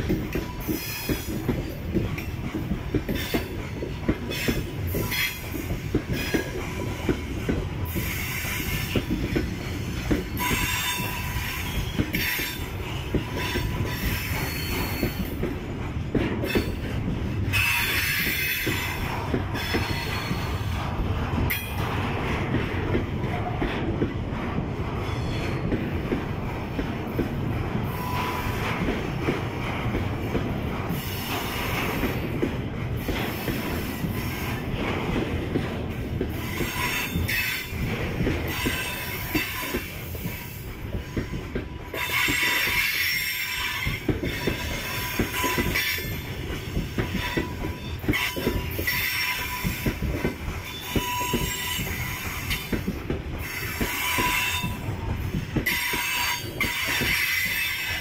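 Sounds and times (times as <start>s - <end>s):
steel wheels rumbling on rail: 0.0s - 58.0s
wheels clacking over rail joints: 0.0s - 58.0s.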